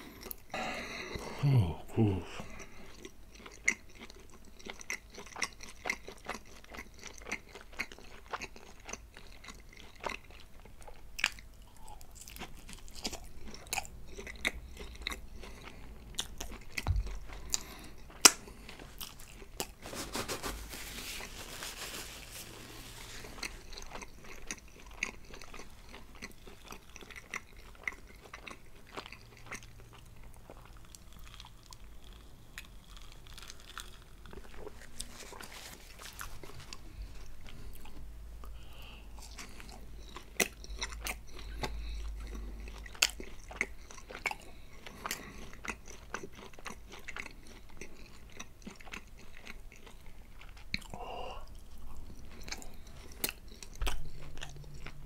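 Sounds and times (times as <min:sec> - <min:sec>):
chewing with crunching: 0:00.0 - 0:01.2, 0:02.2 - 0:55.0.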